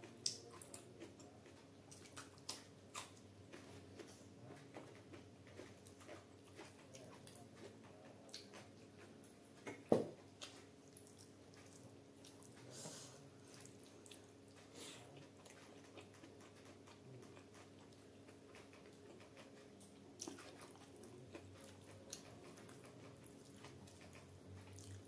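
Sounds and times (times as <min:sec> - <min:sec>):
wet chewing: 0:00.0 - 0:12.7, 0:13.3 - 0:25.0.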